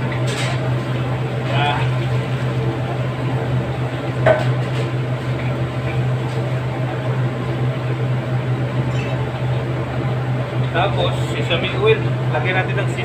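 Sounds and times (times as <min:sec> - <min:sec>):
kitchen background hum: 0:00.0 - 0:13.0.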